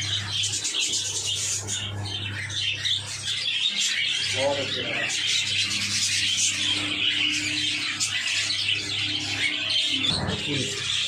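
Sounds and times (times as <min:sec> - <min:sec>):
small birds chirping and chattering: 0:00.0 - 0:11.0.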